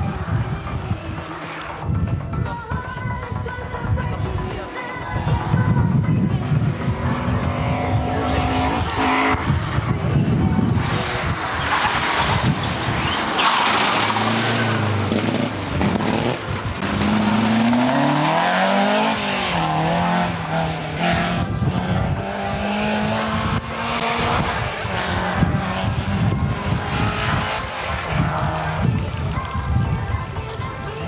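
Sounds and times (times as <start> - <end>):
rally car engine at full throttle: 0.0 - 2.4, 3.4 - 30.3
tyre and road noise: 0.0 - 31.0.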